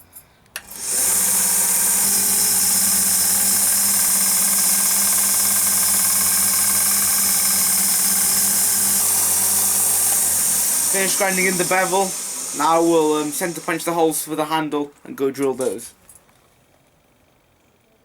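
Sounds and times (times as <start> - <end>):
belt grinder grinding steel: 0.6 - 15.8.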